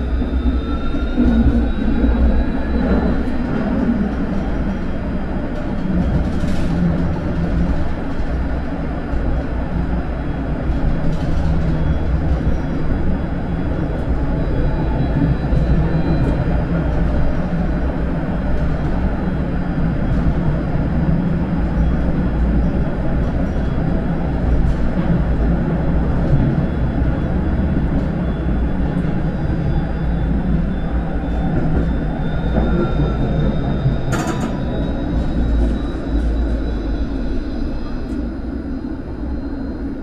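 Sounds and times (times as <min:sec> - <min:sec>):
tram rumbling along track: 0:00.0 - 0:40.0.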